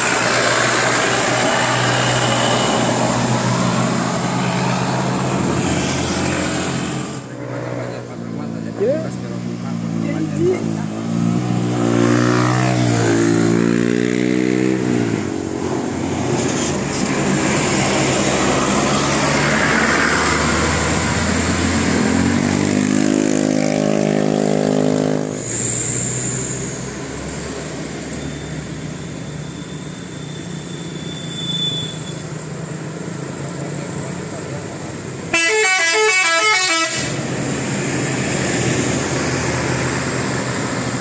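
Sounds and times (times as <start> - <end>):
bus engine revving: 0.0 - 30.6, 32.0 - 41.0
road noise: 0.0 - 41.0
traffic rumble: 0.0 - 41.0.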